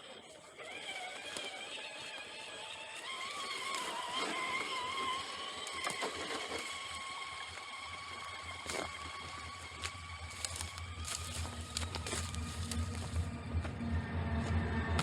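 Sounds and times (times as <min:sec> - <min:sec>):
rc car motor whining: 0:00.0 - 0:13.5.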